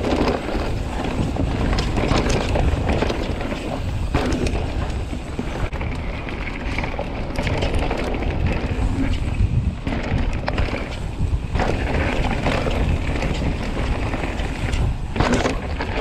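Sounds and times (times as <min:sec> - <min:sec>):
bike clattering over roots: 0:00.0 - 0:16.0
bike tyres rolling on dirt: 0:00.0 - 0:16.0.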